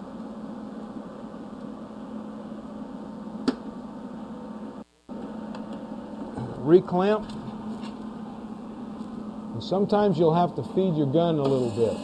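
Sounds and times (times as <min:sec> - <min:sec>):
welder humming: 0:00.0 - 0:12.0.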